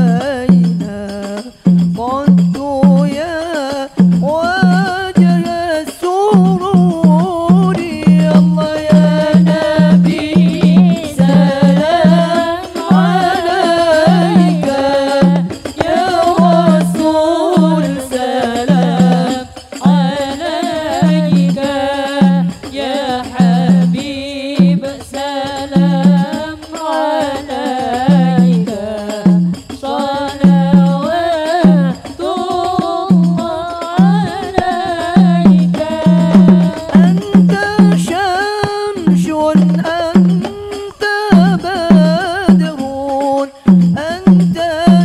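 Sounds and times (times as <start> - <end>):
drums steady low beat: 0.0 - 45.0
woman singing devotional song: 0.0 - 45.0.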